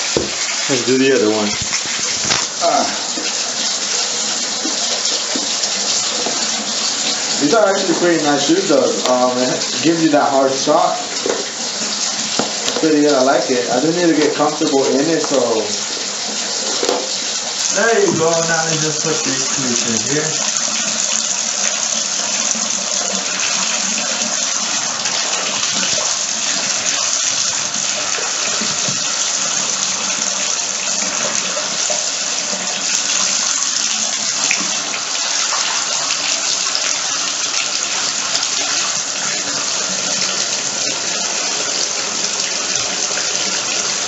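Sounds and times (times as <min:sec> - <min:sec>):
faucet running into a tub: 0:00.0 - 0:44.0.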